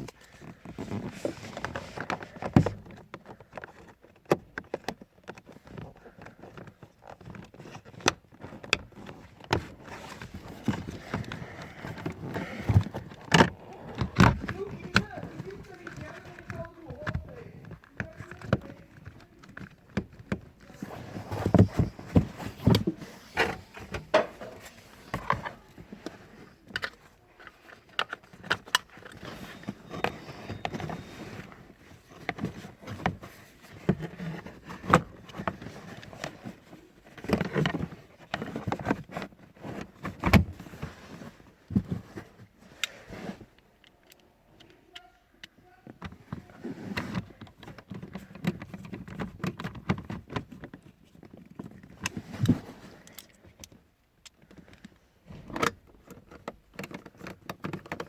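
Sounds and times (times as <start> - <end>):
plastic parts clicking and knocking: 0.0 - 58.0.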